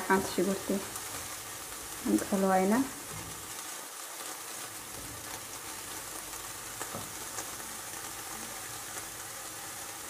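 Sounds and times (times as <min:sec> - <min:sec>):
onions sizzling in a pan: 0:00.0 - 0:10.0.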